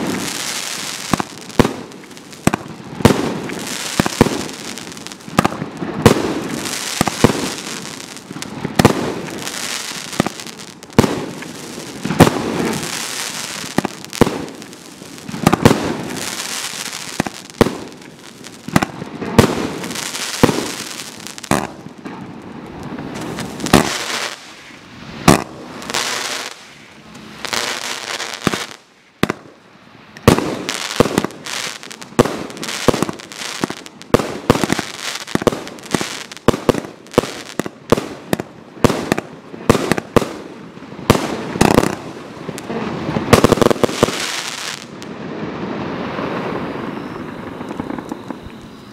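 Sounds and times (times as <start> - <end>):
firework shots and bursts: 0.0 - 26.8, 30.2 - 48.8
firework crackling hiss: 0.0 - 29.6, 30.2 - 48.9.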